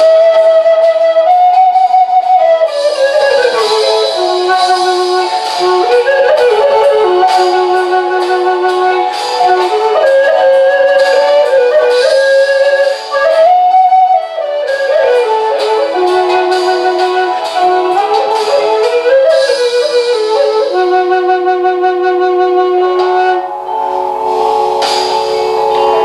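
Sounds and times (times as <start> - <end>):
flute long held notes: 0.0 - 26.0
guitar backing track: 0.0 - 26.0.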